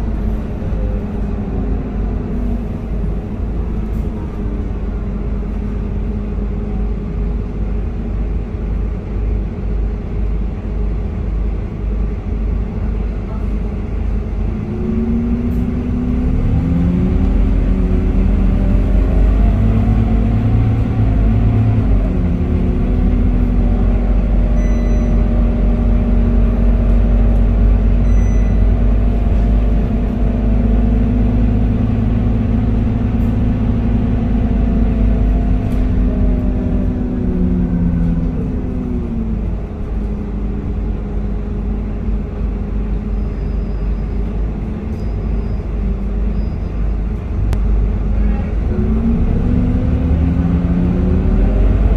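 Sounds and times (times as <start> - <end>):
bus diesel engine rumbling: 0.0 - 51.9.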